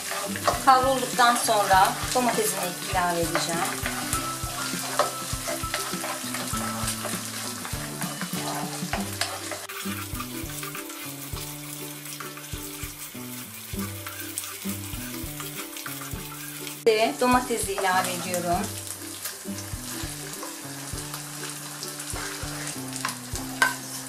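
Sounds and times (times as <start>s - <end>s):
background music: 0.0s - 24.0s
food sizzling in frying pan: 0.0s - 24.0s.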